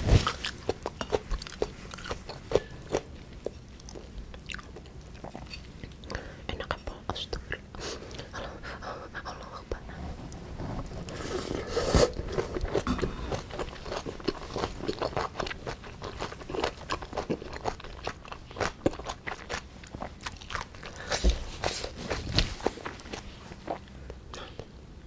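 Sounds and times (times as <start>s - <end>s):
chewing crunchy food: 0.2s - 6.8s, 10.3s - 24.7s.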